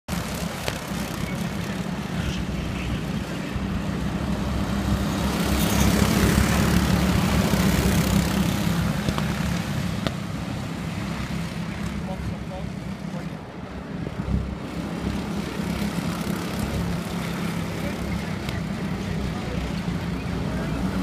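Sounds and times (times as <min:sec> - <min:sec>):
go-kart engines buzzing: 0:00.1 - 0:21.0.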